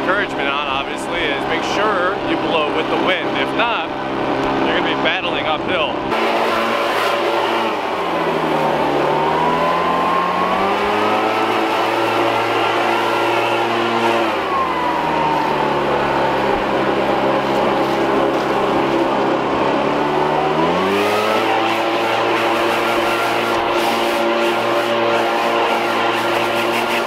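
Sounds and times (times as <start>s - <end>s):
leaf blower engine revving: 0.0s - 27.0s.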